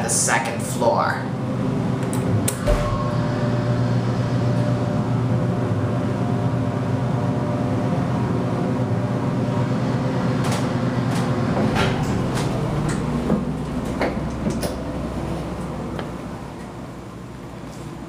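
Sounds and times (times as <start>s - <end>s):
elevator cab humming: 1.3s - 18.0s.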